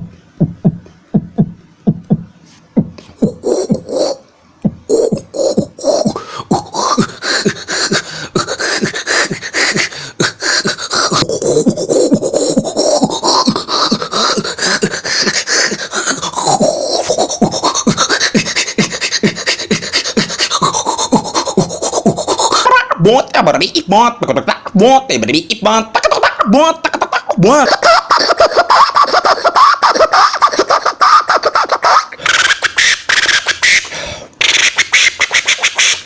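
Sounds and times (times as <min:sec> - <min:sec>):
beatboxed pulses with sweeping tone: 0:00.0 - 0:22.8, 0:26.0 - 0:36.0.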